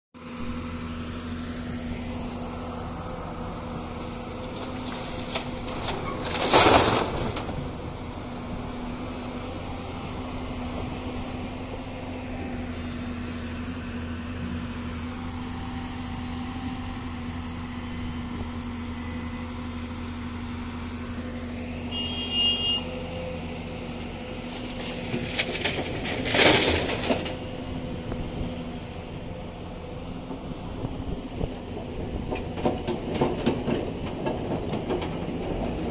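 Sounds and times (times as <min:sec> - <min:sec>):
excavator diesel engine running: 0:00.2 - 0:35.9.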